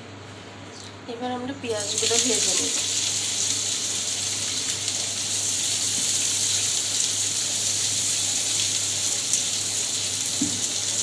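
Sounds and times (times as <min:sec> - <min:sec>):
onions sizzling in hot oil: 0:01.8 - 0:11.0.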